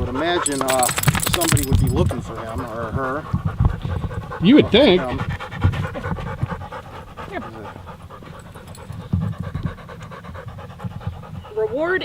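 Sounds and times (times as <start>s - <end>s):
dog panting rapidly: 0.0s - 12.0s.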